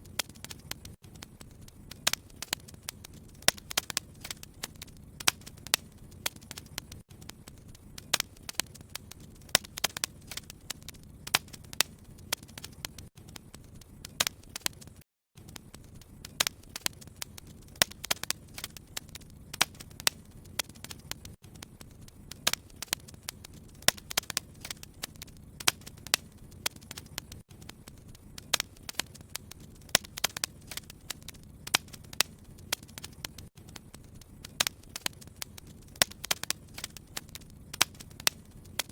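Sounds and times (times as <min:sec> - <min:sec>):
fire crackling in a fireplace: 0:00.0 - 0:38.9.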